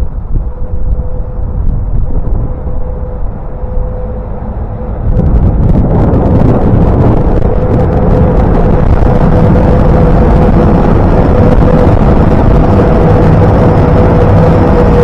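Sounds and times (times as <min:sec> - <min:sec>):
train passing: 0:00.0 - 0:15.0.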